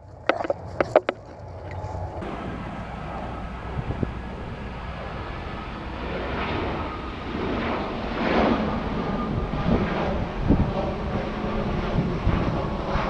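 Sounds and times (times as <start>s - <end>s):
jet airliner flying overhead: 0.0s - 13.0s.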